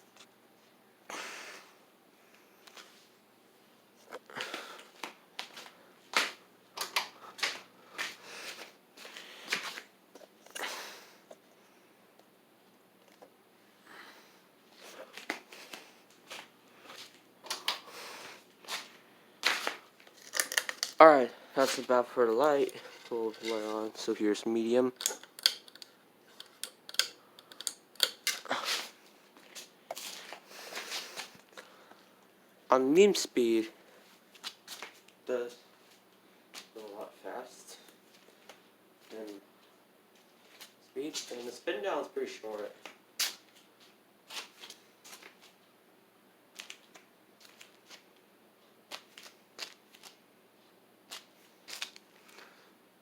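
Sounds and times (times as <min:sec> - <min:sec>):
ceiling fan running: 0:00.0 - 0:42.9
faint steady background noise: 0:00.0 - 0:53.0.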